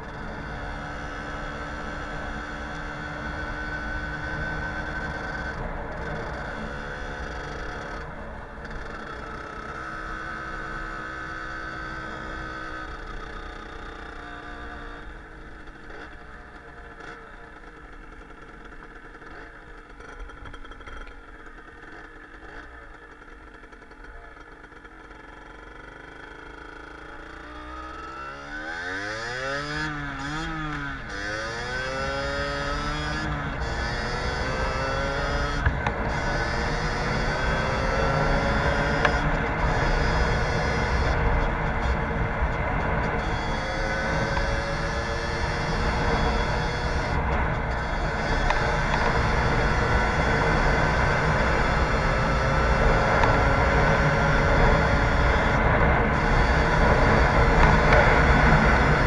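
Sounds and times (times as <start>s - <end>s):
two-stroke engine running: 0.0s - 59.0s.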